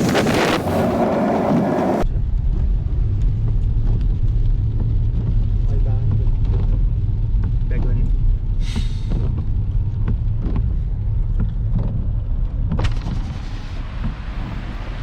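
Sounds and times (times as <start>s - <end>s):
vehicle jolt: 0.0s - 2.0s, 4.6s - 15.0s
vehicle rumbling on rough road: 0.0s - 15.0s.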